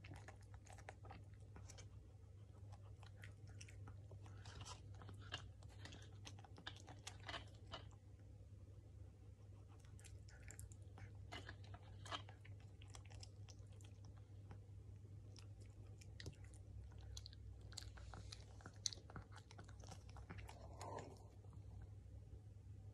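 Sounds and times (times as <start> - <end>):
dog chewing wet food: 0.0 - 8.2, 9.5 - 21.8.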